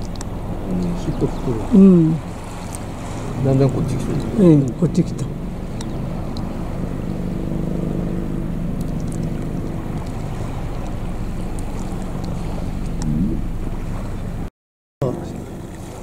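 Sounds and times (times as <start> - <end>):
engine drone: 0.0 - 16.0
water lapping against shore: 0.0 - 16.0.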